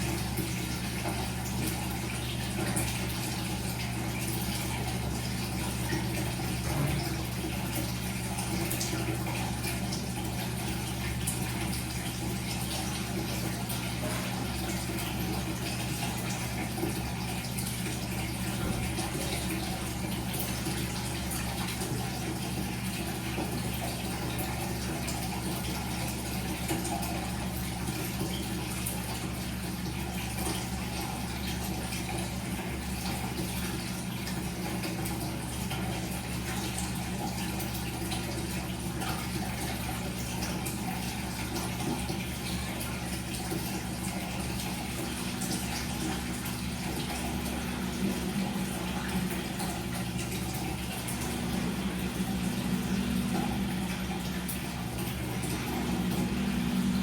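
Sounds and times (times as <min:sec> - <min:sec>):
washing machine motor hum: 0:00.0 - 0:57.0
water sloshing in drum: 0:00.0 - 0:57.0.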